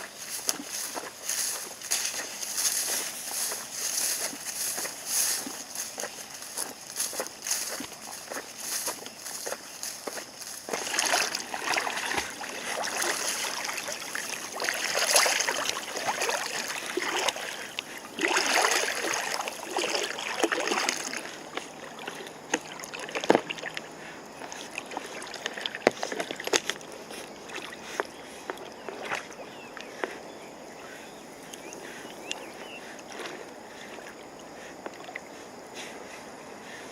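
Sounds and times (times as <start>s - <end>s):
dogs splashing through water: 0.0s - 30.2s.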